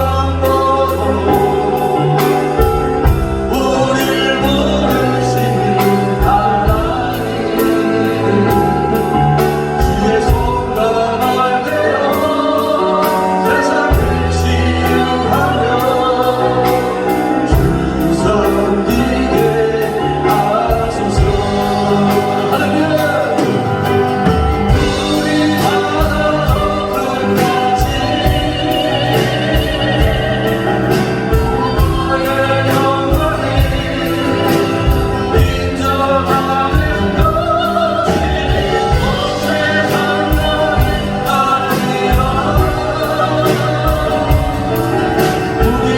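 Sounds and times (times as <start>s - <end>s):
choir singing gospel song: 0.0s - 45.9s
instrumental accompaniment with beat: 0.0s - 45.9s.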